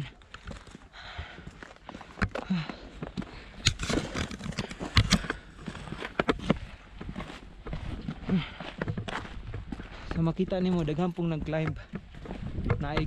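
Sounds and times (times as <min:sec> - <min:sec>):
footsteps on loose rock: 0:00.0 - 0:13.0.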